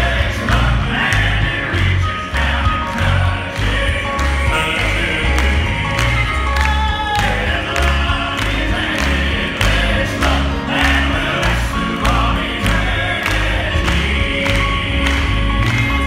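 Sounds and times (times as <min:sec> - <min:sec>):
keyboard with heavy bass: 0:00.0 - 0:16.0
male quartet singing in harmony: 0:00.0 - 0:16.0
steady beat: 0:00.0 - 0:16.0.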